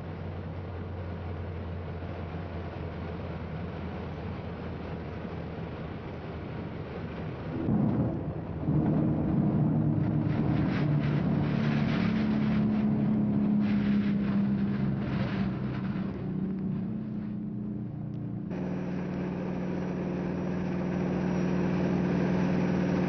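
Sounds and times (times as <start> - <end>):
propeller plane engine drone: 0.0 - 23.0.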